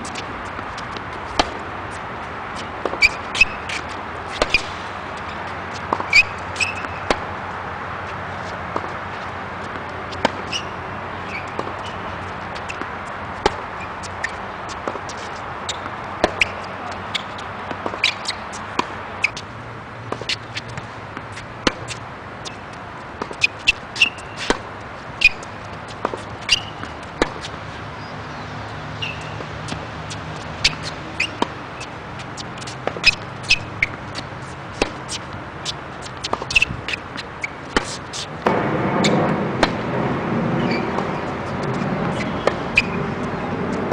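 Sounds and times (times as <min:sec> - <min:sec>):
tennis balls struck with racket: 0:00.0 - 0:07.4, 0:08.0 - 0:43.9
outdoor background noise: 0:00.0 - 0:43.9
tennis balls bouncing on court: 0:00.0 - 0:43.9.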